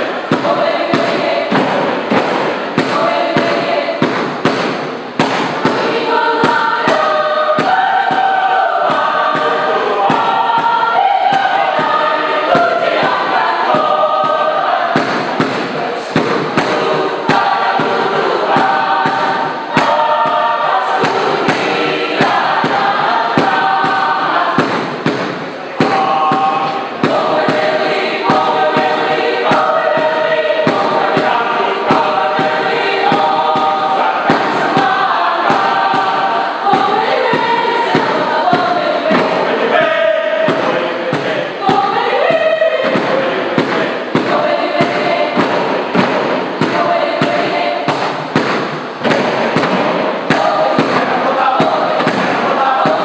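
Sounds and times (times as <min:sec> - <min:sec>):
mixed choir singing in parts: 0:00.0 - 0:53.0
percussive thumps: 0:00.0 - 0:53.0.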